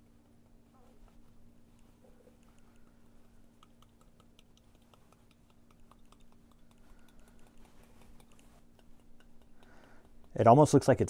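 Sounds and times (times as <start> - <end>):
low steady hum: 0.0 - 11.0
paintbrush tapping light ticks: 1.7 - 10.9.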